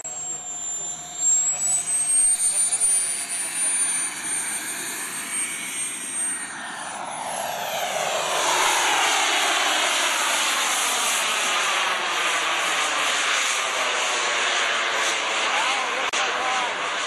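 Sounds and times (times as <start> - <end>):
high whine rising in pitch: 0.0 - 17.0
model jet engine rushing: 0.0 - 17.0.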